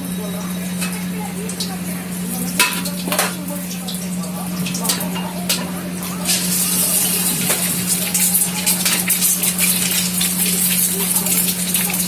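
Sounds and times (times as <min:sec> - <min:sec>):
low burner hum: 0:00.0 - 0:12.0
rice sizzling in a wok: 0:00.5 - 0:12.0.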